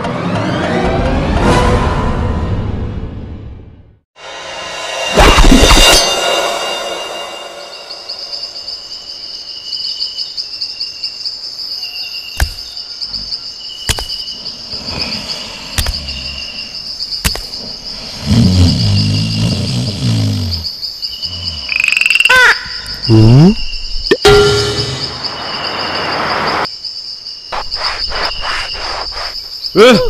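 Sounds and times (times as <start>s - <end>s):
insects chirping: 5.1s - 30.0s.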